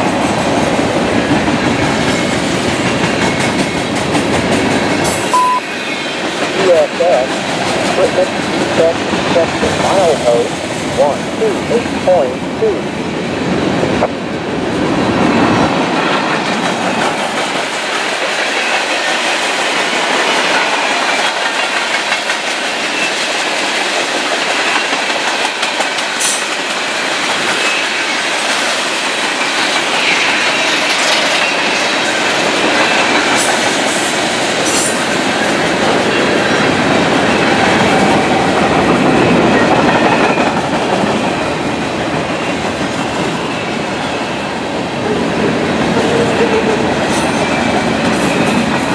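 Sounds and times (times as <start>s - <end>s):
freight train rumbling: 0.0s - 48.9s.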